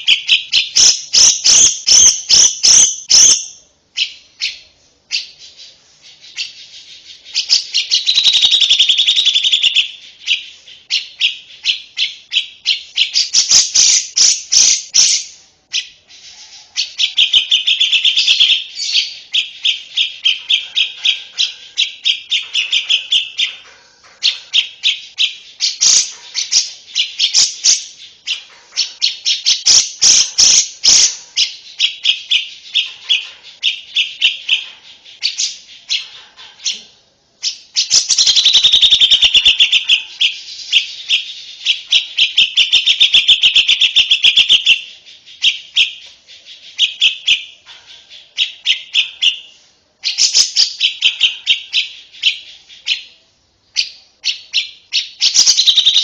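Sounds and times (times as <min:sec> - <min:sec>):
lovebird chirping: 0:00.0 - 0:56.0.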